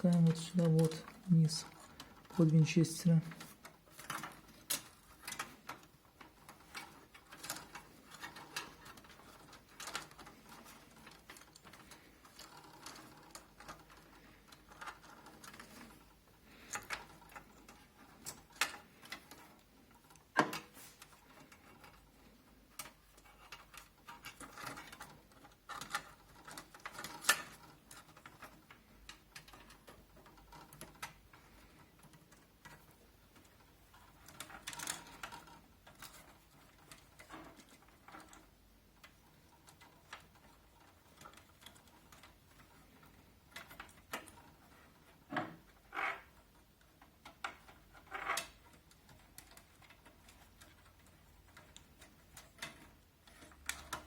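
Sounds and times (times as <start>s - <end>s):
hands clicking and rustling in case: 0.0s - 54.0s.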